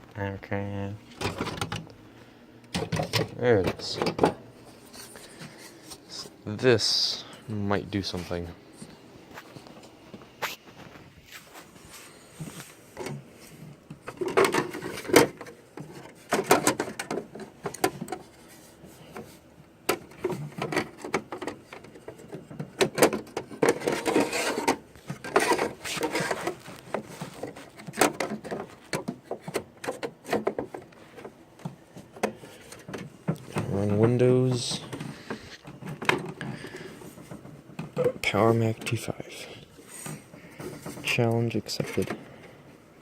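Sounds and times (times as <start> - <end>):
computer hardware being handled: 1.1 - 1.9, 2.7 - 6.2, 9.3 - 42.6.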